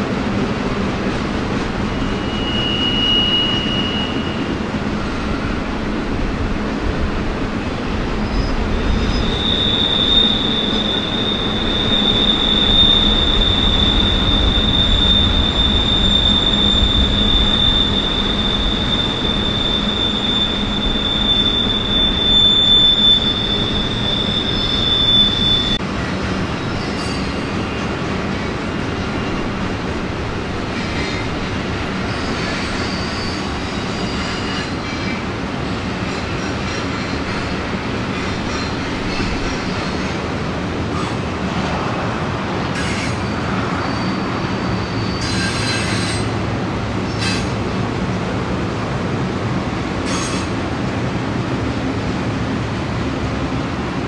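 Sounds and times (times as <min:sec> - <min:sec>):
rumble of rolling train cars: 0:00.0 - 0:54.0
train wheels squealing: 0:00.8 - 0:05.8, 0:07.9 - 0:41.8, 0:42.6 - 0:47.7, 0:49.9 - 0:50.6.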